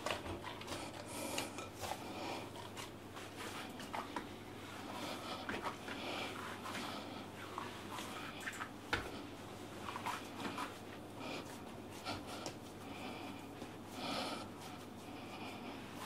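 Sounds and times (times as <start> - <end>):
hands kneading dough: 0.0 - 16.0.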